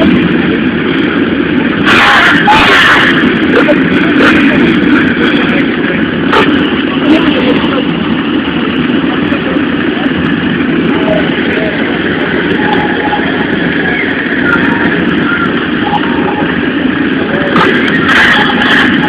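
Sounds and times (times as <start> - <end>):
dirt bike engines running: 0.0 - 19.0.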